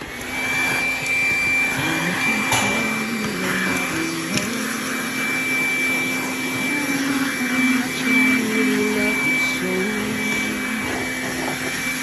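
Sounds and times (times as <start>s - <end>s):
handheld vacuum running: 0.0s - 12.0s.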